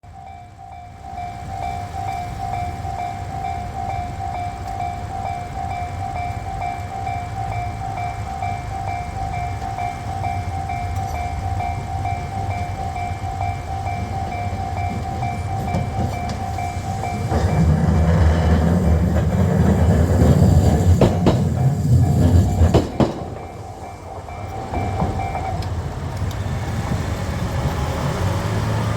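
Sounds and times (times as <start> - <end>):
level crossing alarm ringing: 0.0 - 26.7
tram rumbling: 0.0 - 28.9.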